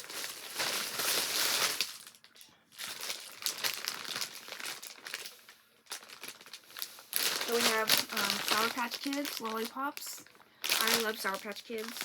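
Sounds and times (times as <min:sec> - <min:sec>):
packaging crinkling torn open: 0:00.0 - 0:12.0.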